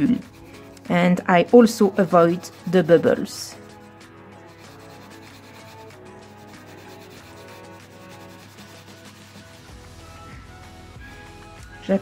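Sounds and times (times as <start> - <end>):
pencil scratching on paper: 0.0 - 9.7.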